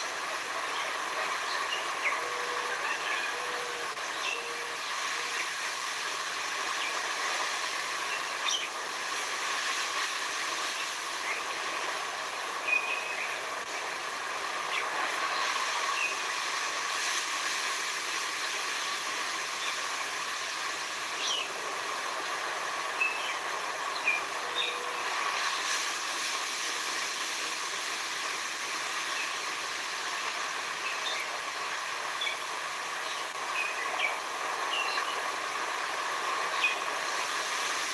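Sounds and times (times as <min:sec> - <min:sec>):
sea rushing: 0:00.0 - 0:37.9.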